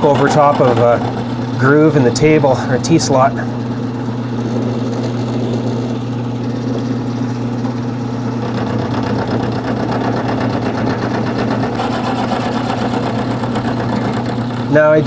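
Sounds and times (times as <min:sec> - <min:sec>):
milling machine motor hum: 0:00.0 - 0:15.0.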